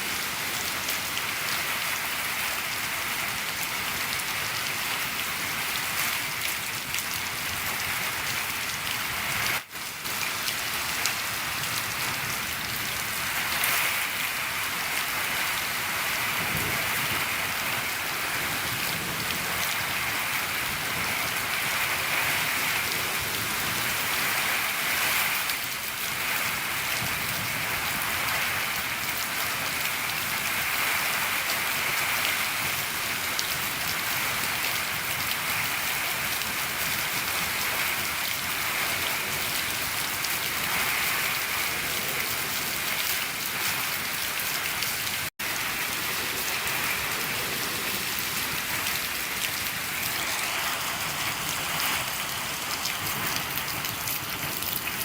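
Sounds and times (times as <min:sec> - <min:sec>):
rain on a shed roof: 0:00.0 - 0:55.0.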